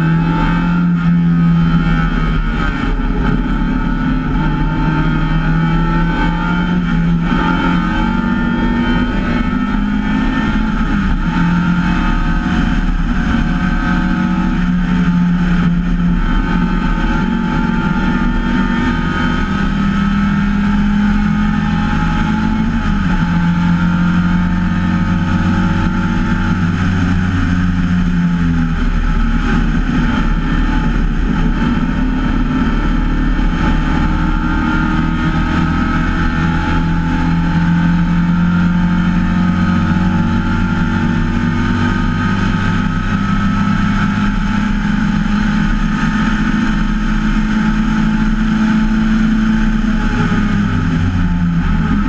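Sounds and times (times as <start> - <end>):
race car engine running hard: 0.0 - 52.0
rush of wind: 0.0 - 52.0.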